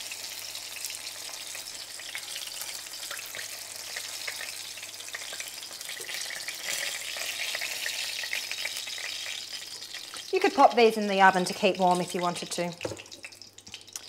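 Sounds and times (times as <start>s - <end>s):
fish sizzling in a frying pan: 0.0s - 14.0s.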